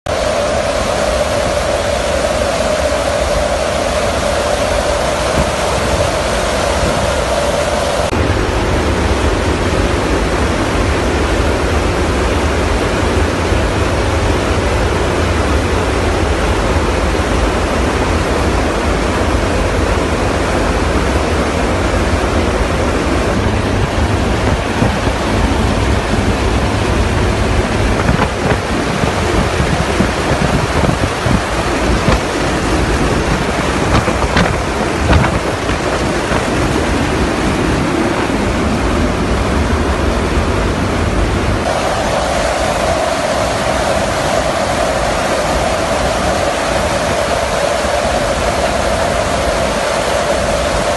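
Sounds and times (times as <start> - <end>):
aircraft airflow rushing: 0.1 - 50.9
wind buffeting microphone: 0.1 - 50.9.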